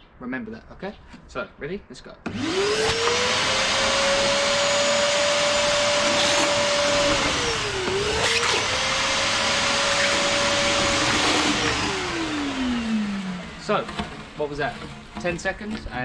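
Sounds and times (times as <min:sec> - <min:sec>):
vacuum motor whine: 0:02.3 - 0:15.2
vacuum sucking water: 0:02.3 - 0:16.0.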